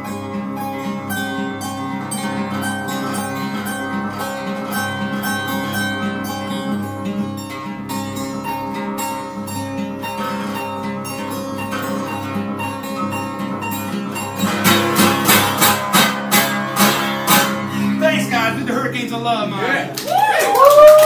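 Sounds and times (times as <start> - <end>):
acoustic guitar: 0.0 - 20.2.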